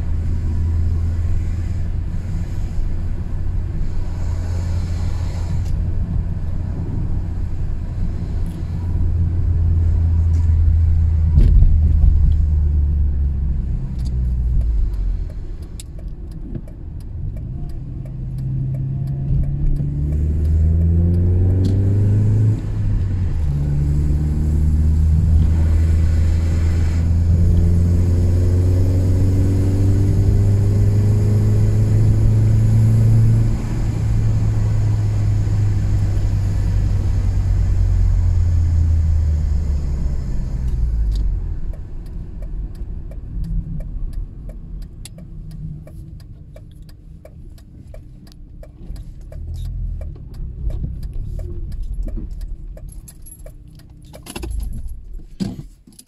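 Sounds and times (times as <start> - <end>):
low rumble: 0.0 - 46.3
car engine running: 0.0 - 55.6.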